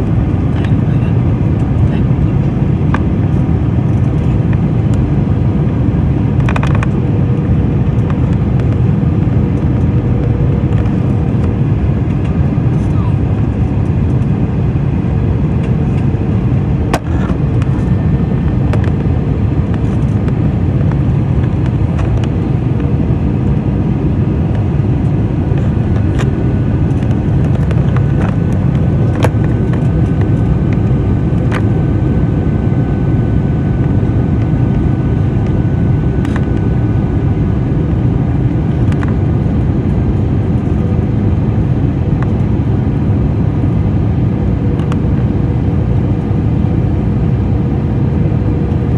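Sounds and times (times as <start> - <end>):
airliner engine and airflow roar: 0.0 - 48.9.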